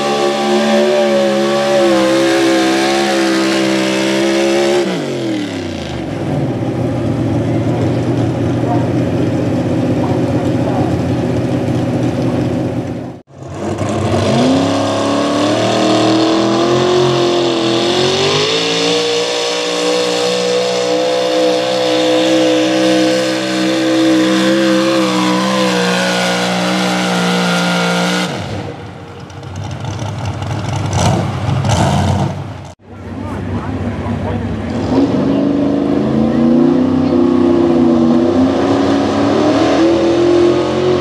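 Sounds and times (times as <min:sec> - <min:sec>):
truck engine at full throttle: 0:00.0 - 0:41.0.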